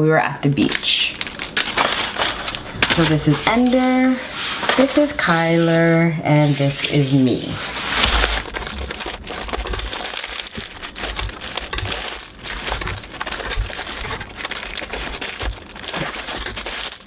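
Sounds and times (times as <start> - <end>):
plastic mailer bag crinkling: 0.6 - 17.0.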